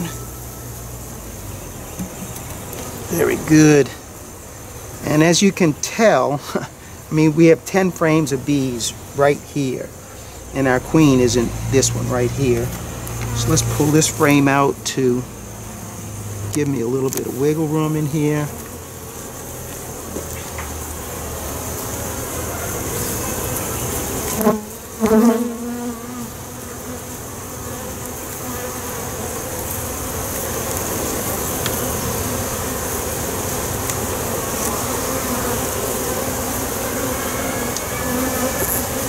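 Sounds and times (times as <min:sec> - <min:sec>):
honey bees humming: 0:00.0 - 0:39.0.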